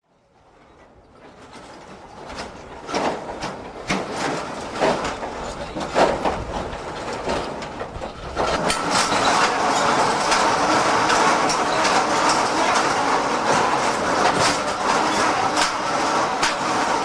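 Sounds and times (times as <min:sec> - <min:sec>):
tracked vehicle rumbling: 0:00.4 - 0:17.0
tracks rattling and clanking: 0:00.4 - 0:17.0.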